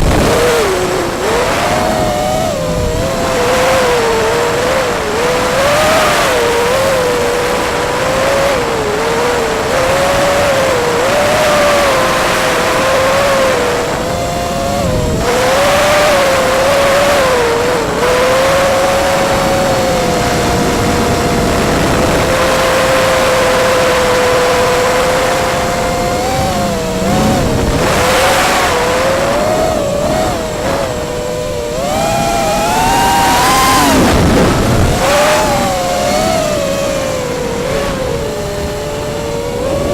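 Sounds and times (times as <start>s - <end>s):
model aircraft motor whine: 0.0s - 39.9s
rushing wind noise: 0.0s - 39.9s.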